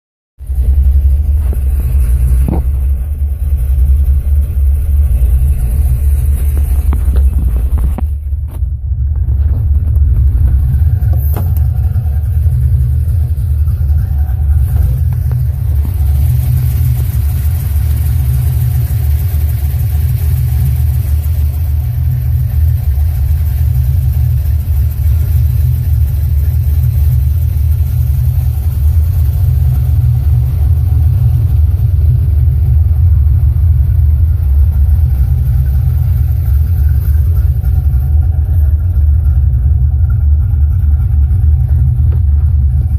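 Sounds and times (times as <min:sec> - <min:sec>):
car engine running: 0:00.4 - 0:42.9.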